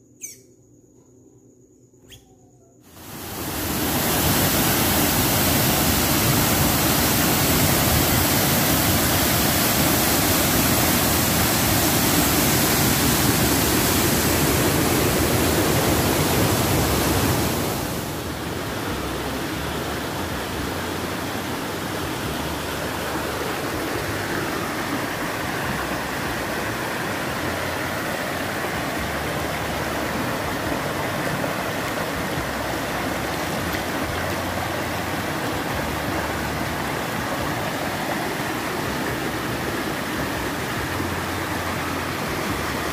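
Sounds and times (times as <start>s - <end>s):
stream running over stones: 2.9s - 42.9s
waterfall rushing into a pool: 2.9s - 42.9s.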